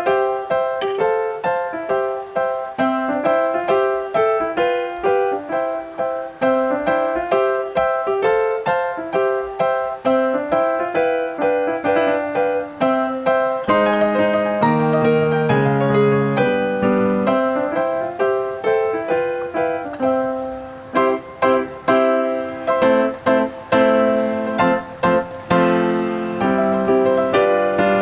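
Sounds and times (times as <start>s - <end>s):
light instrumental melody: 0.0s - 28.0s.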